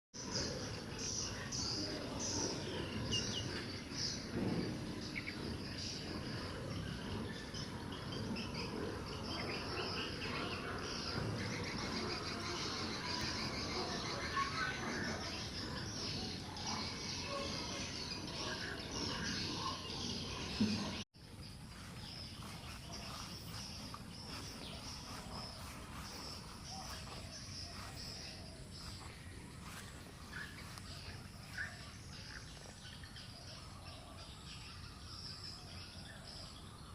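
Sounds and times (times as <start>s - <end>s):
bird chirps: 0.2s - 36.9s
insects trilling: 0.2s - 36.9s.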